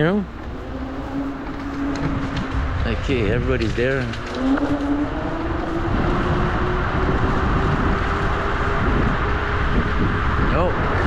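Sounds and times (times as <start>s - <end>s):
electric scooter motor whine: 0.0s - 11.0s
wind on microphone: 0.0s - 11.0s.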